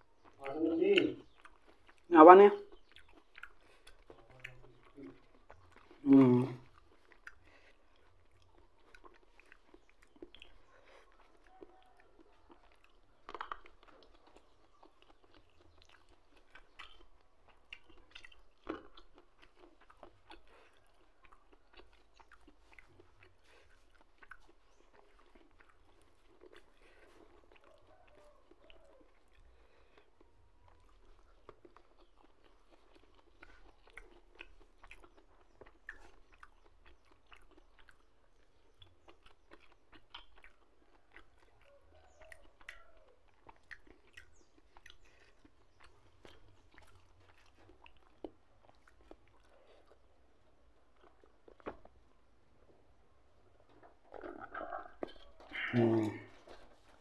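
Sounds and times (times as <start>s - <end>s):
faint chewing and mouth smacks: 0.0s - 57.0s.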